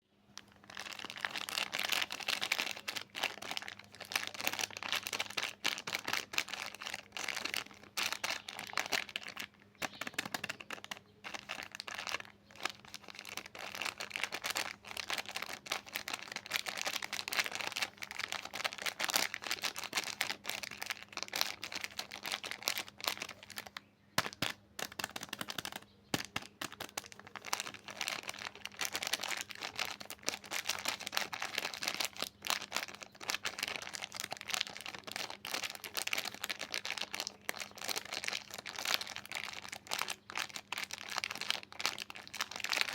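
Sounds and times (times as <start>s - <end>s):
wrapper crackling crinkle: 0.4s - 42.9s
wrapper tearing: 0.4s - 42.9s.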